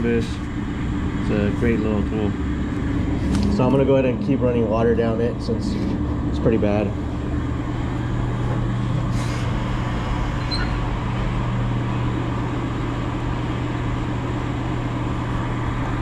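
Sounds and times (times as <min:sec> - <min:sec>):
low mechanical droning hum: 0:00.0 - 0:16.0.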